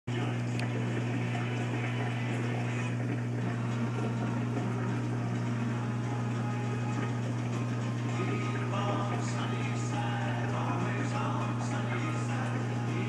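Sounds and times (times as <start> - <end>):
aquarium pump humming: 0.1 - 13.0
water bubbling and rushing: 0.1 - 13.0.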